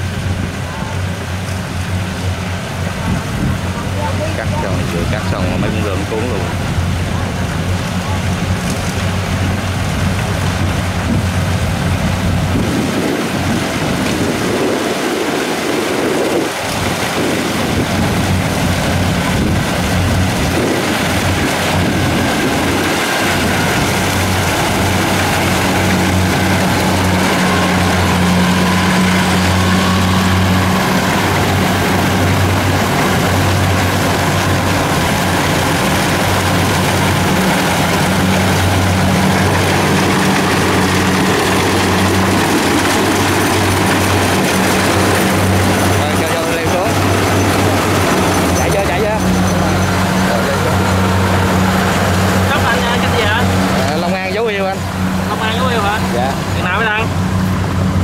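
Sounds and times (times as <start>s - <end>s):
combine harvesters running: 0.0s - 58.0s.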